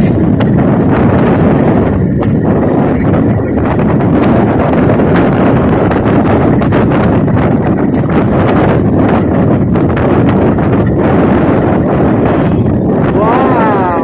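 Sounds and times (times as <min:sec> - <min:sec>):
hull knocking on waves: 0:00.0 - 0:14.0
motorboat engine drone: 0:00.0 - 0:14.0
wind: 0:00.0 - 0:14.0.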